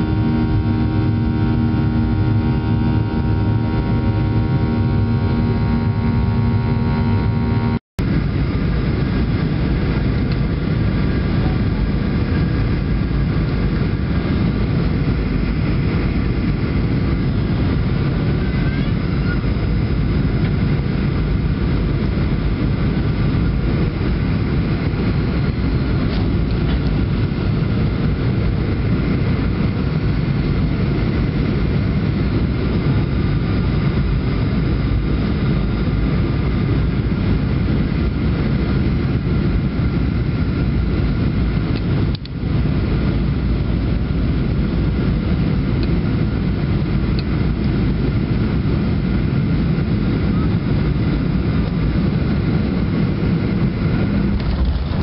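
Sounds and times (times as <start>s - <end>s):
aircraft engine hum: 0.0s - 55.0s
engine and airflow rumble: 0.0s - 55.0s.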